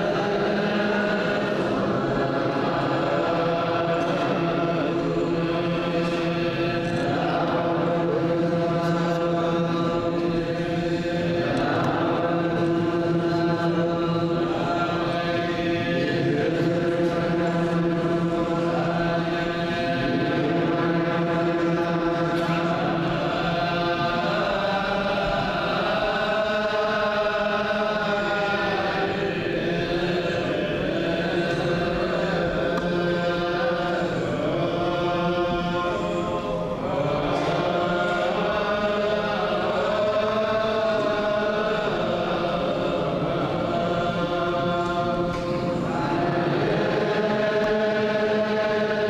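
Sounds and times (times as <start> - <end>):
men chanting together: 0.0 - 49.0.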